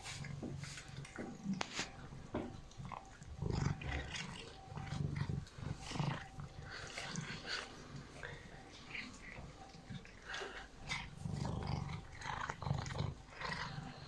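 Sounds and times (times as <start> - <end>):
cat chewing and smacking: 0.0 - 14.0.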